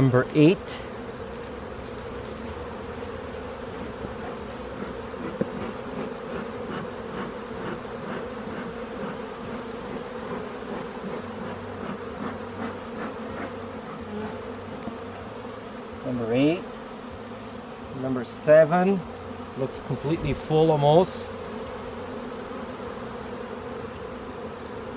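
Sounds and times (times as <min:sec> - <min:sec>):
bees buzzing: 0:00.0 - 0:24.9.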